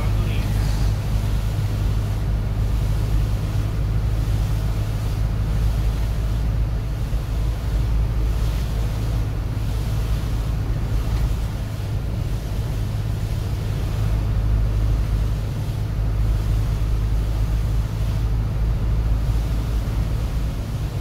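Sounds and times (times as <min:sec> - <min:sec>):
tyres hissing on wet road: 0:00.0 - 0:21.0
vehicle engine and road rumble: 0:00.0 - 0:21.0.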